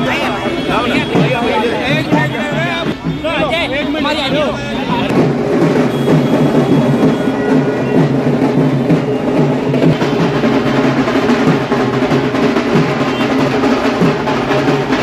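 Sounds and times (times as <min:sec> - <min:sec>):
loud drumming: 0:00.0 - 0:15.0.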